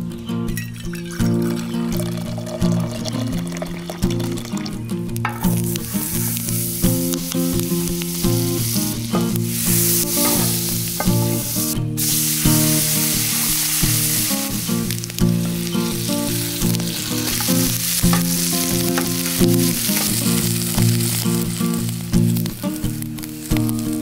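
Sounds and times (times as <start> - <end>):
background music: 0.0 - 24.0
food sizzling in a frying pan: 0.9 - 24.0.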